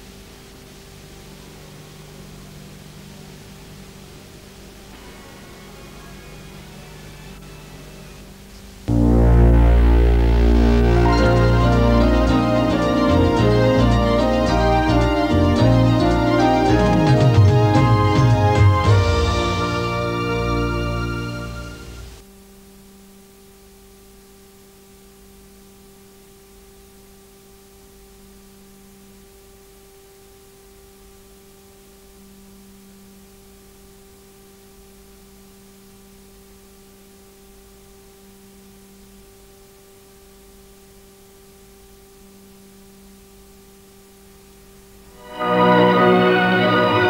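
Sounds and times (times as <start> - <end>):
faint electrical hum: 0.0 - 47.0
tape hiss: 0.0 - 47.0.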